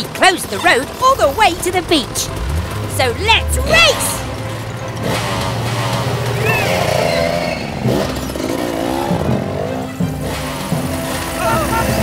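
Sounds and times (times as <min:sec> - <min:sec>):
cartoon motorcycle engine revving: 0:00.0 - 0:12.0.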